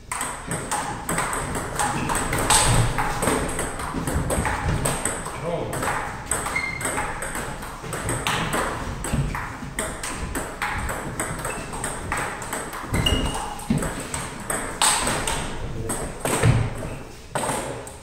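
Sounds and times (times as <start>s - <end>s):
ball bouncing on table: 0.1s - 18.0s
ping pong ball clicking off paddles: 0.1s - 18.0s.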